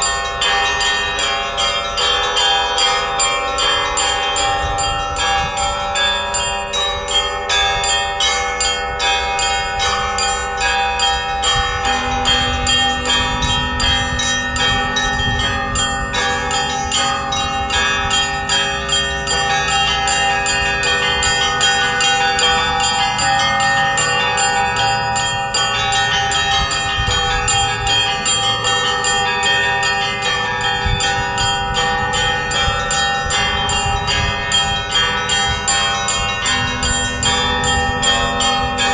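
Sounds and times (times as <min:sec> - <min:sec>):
church bells pealing: 0:00.0 - 0:38.9
low bell tone: 0:00.0 - 0:38.9.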